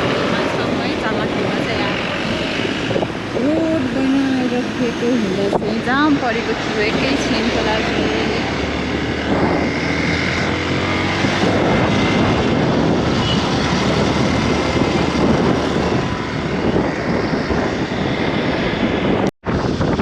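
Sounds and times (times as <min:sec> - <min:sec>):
vehicle engine and road noise: 0:00.0 - 0:20.0
wind on microphone: 0:00.0 - 0:20.0.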